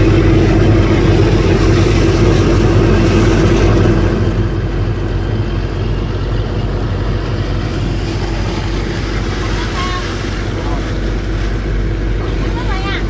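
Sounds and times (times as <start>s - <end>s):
engine driving a pump: 0.0s - 13.0s.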